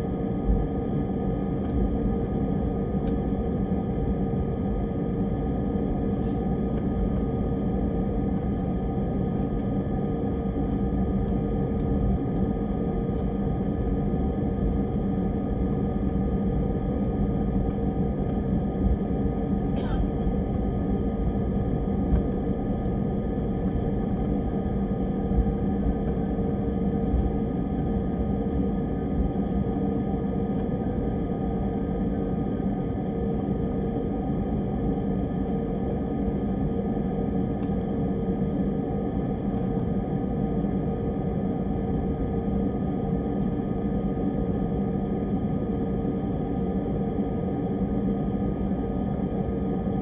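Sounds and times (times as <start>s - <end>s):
jet cabin drone: 0.0s - 50.0s
steady humming tones: 0.0s - 50.0s.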